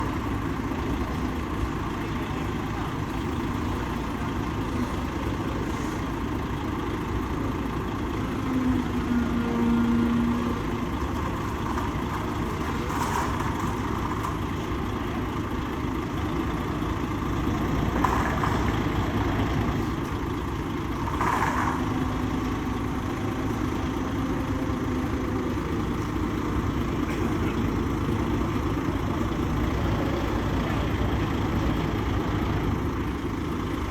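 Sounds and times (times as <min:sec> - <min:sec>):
traffic rumble: 0:00.0 - 0:33.9.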